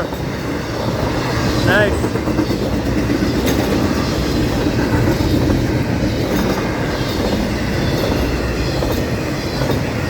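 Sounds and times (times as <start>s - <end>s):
freight cars rumbling on rails: 0.0s - 10.0s
wheels clicking over rail joints: 0.0s - 10.0s.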